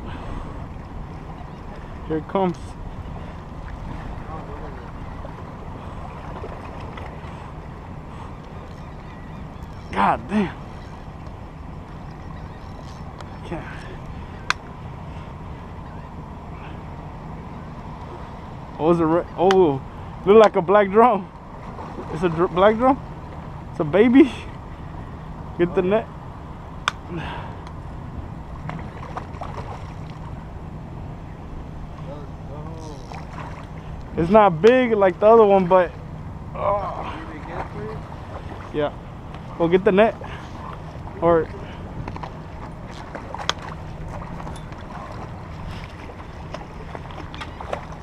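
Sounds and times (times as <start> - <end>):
low hum: 0.0 - 48.0
water noise: 0.0 - 48.0
wind: 0.0 - 48.0.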